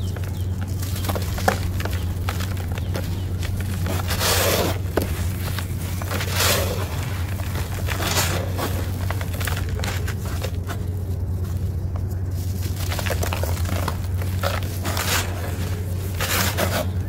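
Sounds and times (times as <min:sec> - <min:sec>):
gritty chunks crushed in hands: 0:00.0 - 0:17.0
low hum: 0:00.0 - 0:17.0.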